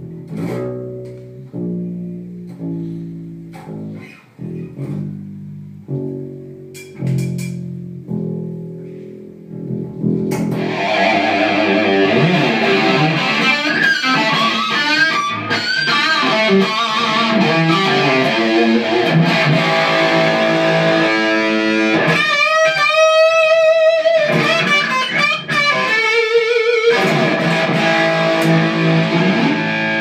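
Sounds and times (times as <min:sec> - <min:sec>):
electric guitar lead lines: 0:00.0 - 0:30.0.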